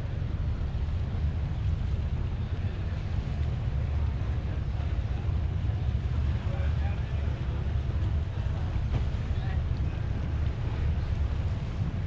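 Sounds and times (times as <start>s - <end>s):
ferry boat engine: 0.0s - 12.0s
wind rumble on microphone: 0.0s - 12.0s.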